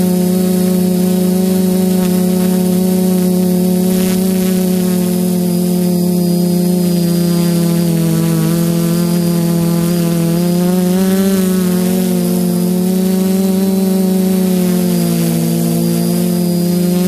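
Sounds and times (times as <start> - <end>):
quadcopter motors buzzing: 0.0 - 17.0.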